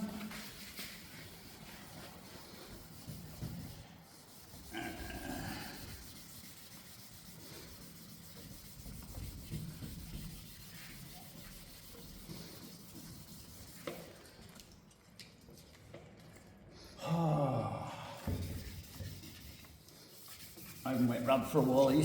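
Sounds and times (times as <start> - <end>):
sandpaper rubbing on plastic: 0.0 - 14.1, 18.3 - 22.0.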